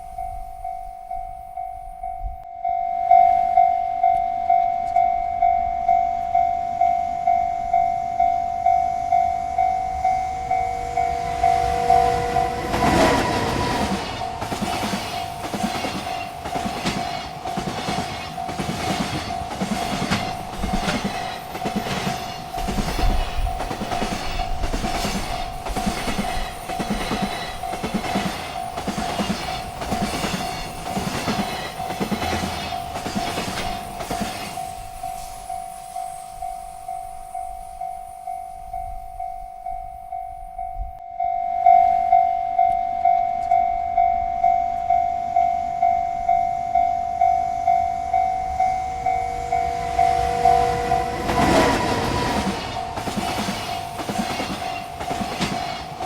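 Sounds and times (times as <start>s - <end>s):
railroad crossing bell ringing: 0.0s - 56.0s
train wheels clacking on rails: 6.1s - 41.0s, 42.6s - 56.0s.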